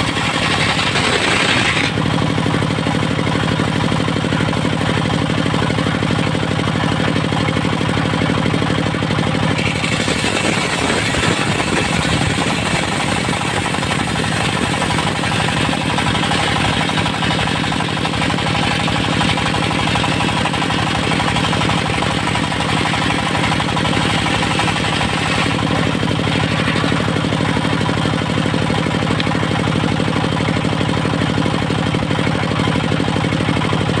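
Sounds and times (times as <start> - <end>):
sawmill engine pounding: 0.0 - 34.0.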